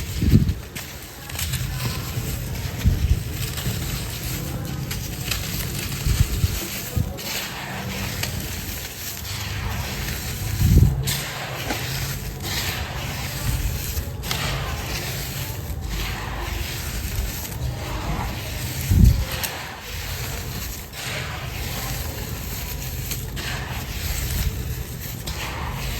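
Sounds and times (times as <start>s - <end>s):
dry sand cement crumbling: 0.0s - 25.9s.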